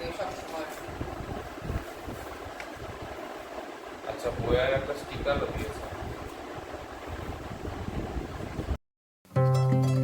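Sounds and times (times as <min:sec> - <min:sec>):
steady hiss and rumble: 0:00.0 - 0:08.8.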